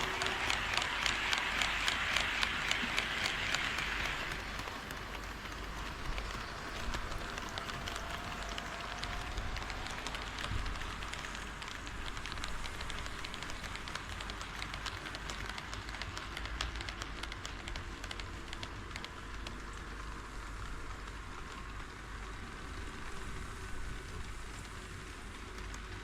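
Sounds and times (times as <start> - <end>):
model train wheels rattling: 0.0 - 26.0
wheels clicking over rail joints: 0.0 - 26.0.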